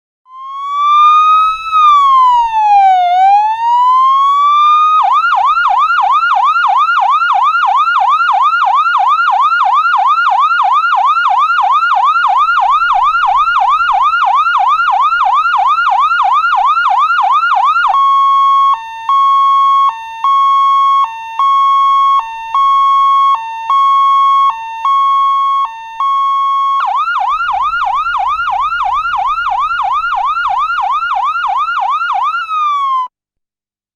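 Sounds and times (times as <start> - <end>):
ambulance siren: 0.3 - 33.1.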